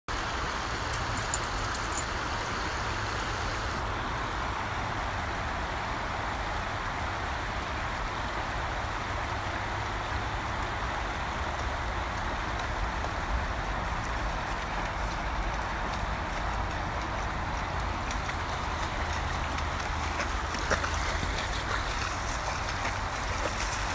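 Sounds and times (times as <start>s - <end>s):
stream running over stones: 0.1s - 23.9s.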